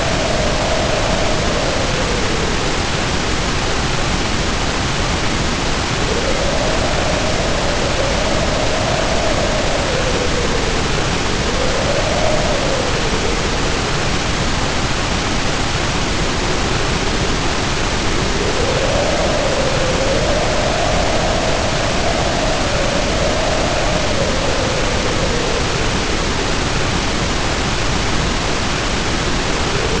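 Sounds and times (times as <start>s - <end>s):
heavy rain pouring: 0.0s - 30.0s
wind howling: 0.0s - 30.0s.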